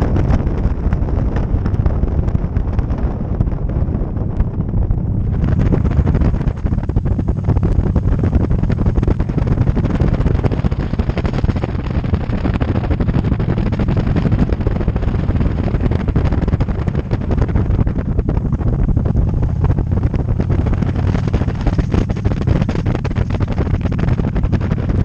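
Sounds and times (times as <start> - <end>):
motorcycle riding: 0.0 - 25.0
wind buffeting microphone: 0.0 - 25.0.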